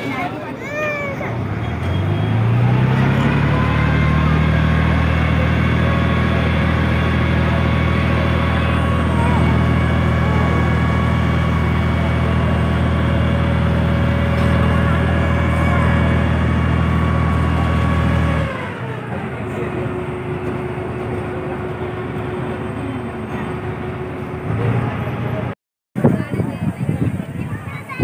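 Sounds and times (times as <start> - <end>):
heavy engine humming: 0.0 - 28.0.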